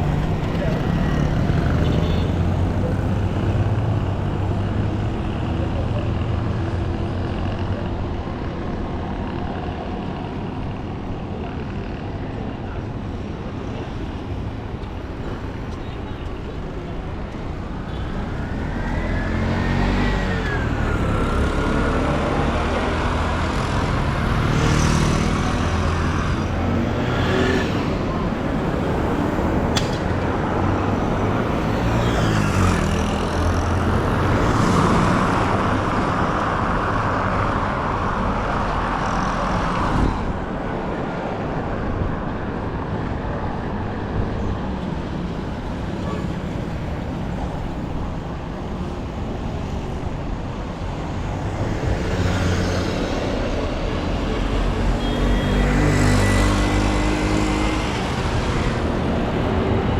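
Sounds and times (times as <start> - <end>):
vehicles passing close by: 0.0 - 59.9.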